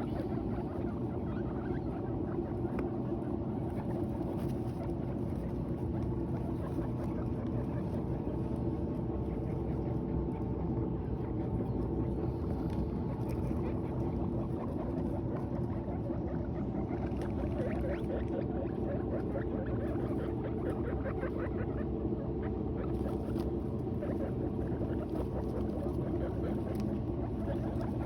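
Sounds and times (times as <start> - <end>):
guinea pigs chewing hay: 0.0 - 28.0
low background noise: 0.0 - 28.0.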